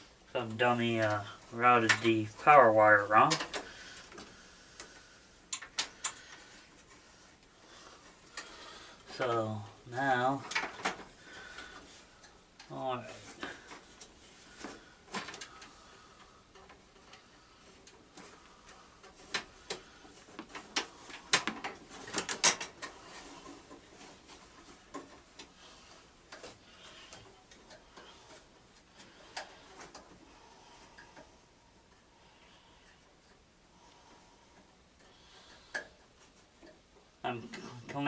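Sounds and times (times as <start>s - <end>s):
hands handling wiring and parts: 0.4s - 38.0s.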